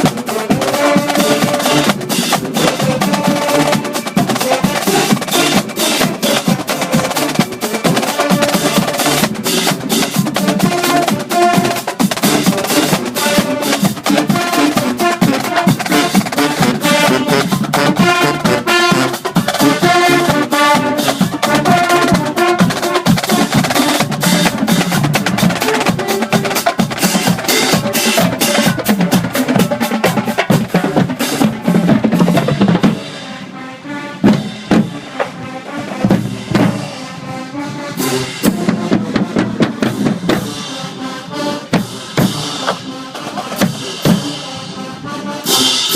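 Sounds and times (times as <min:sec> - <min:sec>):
snare and bass drums: 0:00.0 - 0:33.2, 0:34.2 - 0:37.1, 0:38.0 - 0:41.0, 0:41.7 - 0:44.7
marching band horns: 0:00.0 - 0:45.9.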